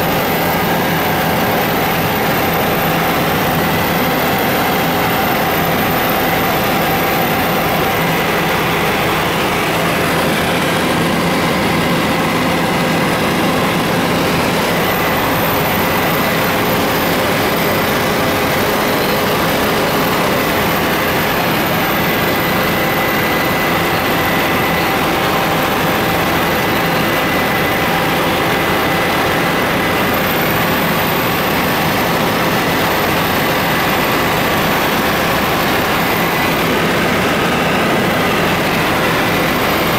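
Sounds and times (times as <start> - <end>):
helicopter engine and rotor drone: 0.0 - 39.9
thin constant whine: 0.0 - 39.9.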